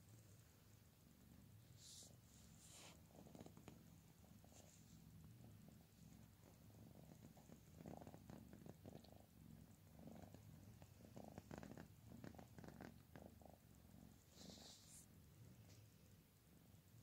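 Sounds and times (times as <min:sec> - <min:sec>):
cat purring faintly: 0:00.0 - 0:17.0.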